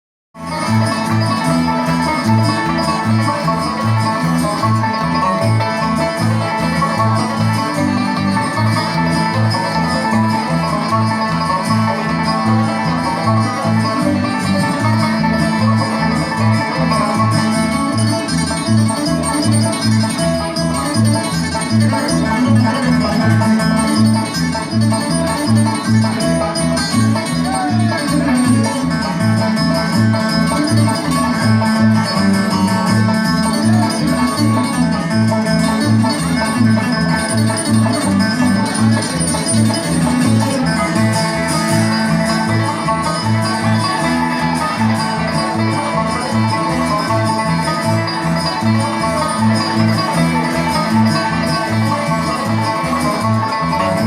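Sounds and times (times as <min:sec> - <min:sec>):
bluegrass banjo and guitar music: 0:00.4 - 0:54.0.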